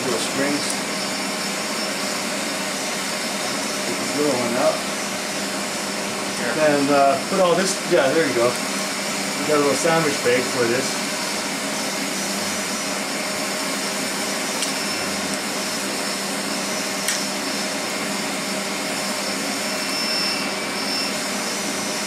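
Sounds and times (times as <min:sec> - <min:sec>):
machine whirring drone: 0:00.0 - 0:22.0.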